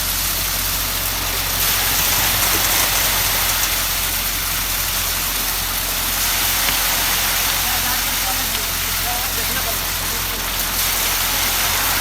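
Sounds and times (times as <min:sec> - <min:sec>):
constant hiss: 0:00.0 - 0:12.0
engine hum: 0:00.0 - 0:12.0.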